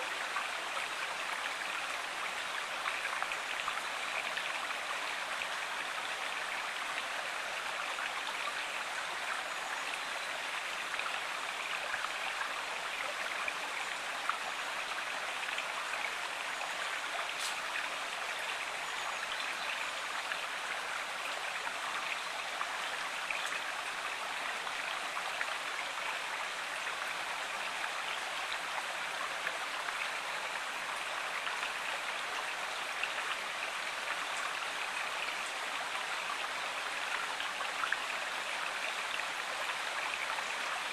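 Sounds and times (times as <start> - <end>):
stream water flowing: 0.0 - 40.9.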